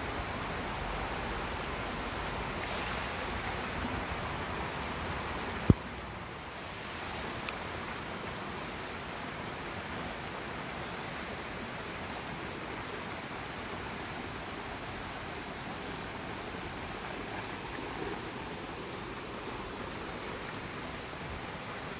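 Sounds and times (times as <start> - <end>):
stream running over rocks: 0.0 - 21.9.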